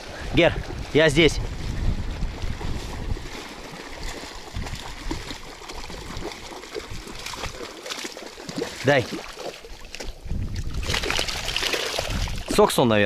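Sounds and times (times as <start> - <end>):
wind rumble on microphone: 0.0 - 7.6, 10.0 - 13.0
dog swimming in water: 0.0 - 12.5.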